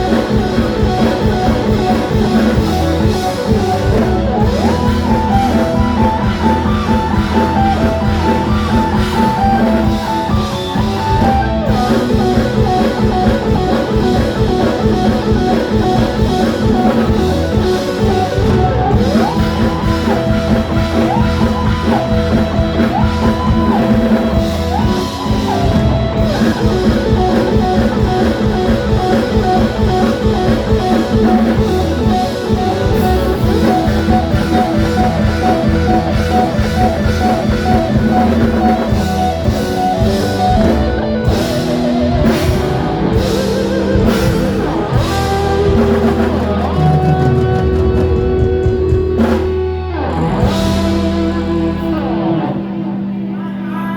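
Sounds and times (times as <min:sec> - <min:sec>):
lead guitar sliding to high note: 0:00.0 - 0:53.9
live band instrumental: 0:00.0 - 0:53.9.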